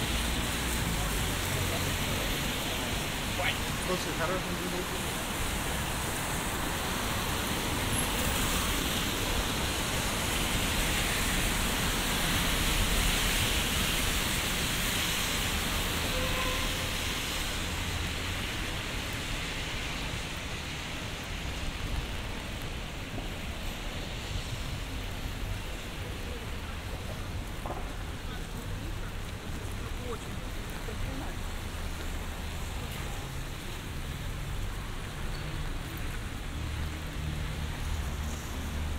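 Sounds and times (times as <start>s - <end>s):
car tyres on wet street: 0.0s - 38.9s
rain hissing: 0.0s - 38.9s.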